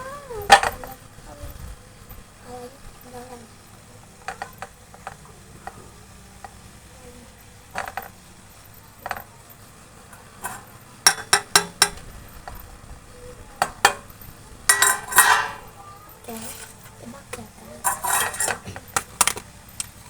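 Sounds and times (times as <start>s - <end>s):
utensils and dishes clinking: 0.0s - 1.1s, 3.6s - 20.0s.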